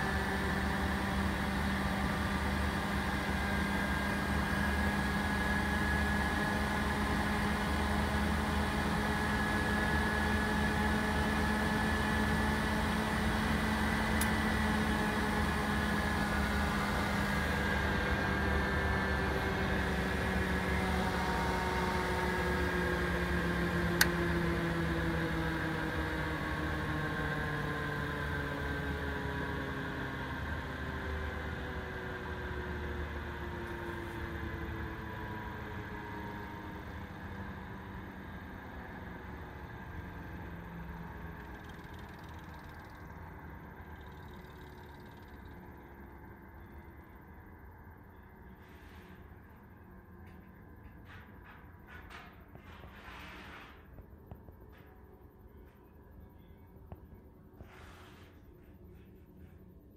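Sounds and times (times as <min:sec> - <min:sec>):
centrifuge motor humming and whining: 0:00.0 - 0:48.6.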